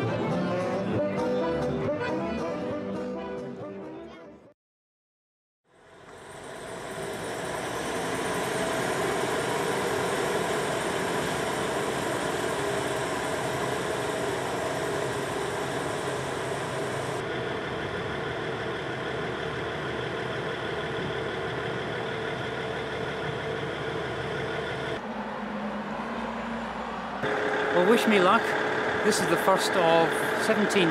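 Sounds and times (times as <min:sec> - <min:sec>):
diesel train engine droning: 0:05.7 - 0:30.9.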